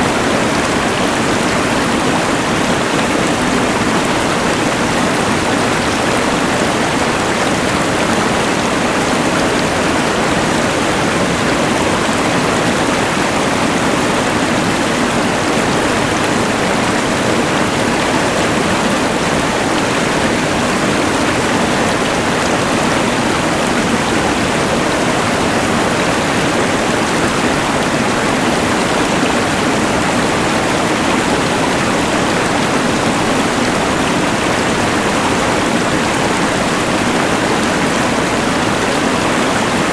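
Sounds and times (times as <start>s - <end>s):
rushing river: 0.0s - 39.9s.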